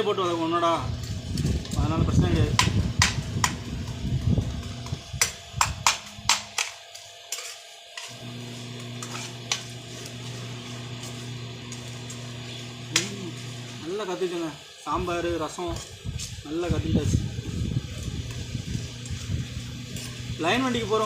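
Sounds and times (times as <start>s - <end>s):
spices frying in oil: 0.0s - 21.0s
steady low hum: 0.0s - 21.0s.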